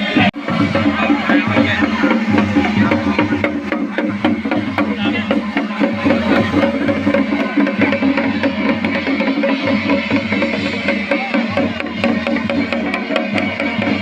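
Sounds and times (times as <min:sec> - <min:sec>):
percussion music with drums: 0:00.0 - 0:14.0.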